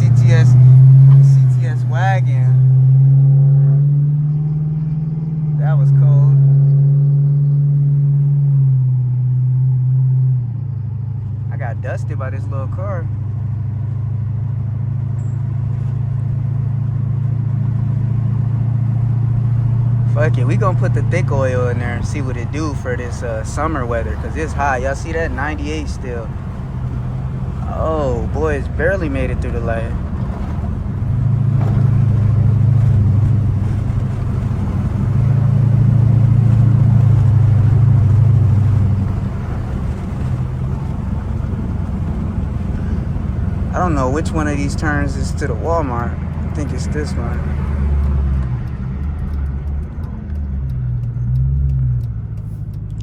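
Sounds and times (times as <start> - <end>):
car engine and road noise drone: 0.0 - 53.0.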